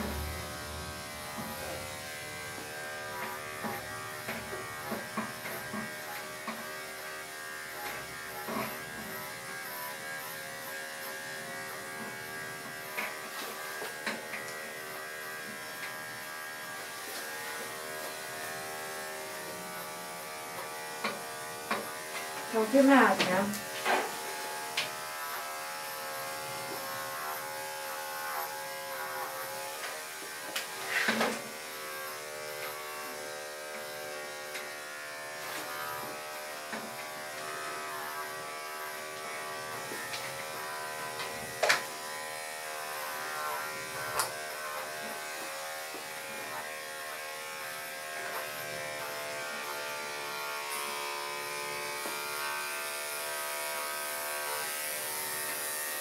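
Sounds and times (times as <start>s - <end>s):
electric clippers buzzing: 0.0s - 56.0s.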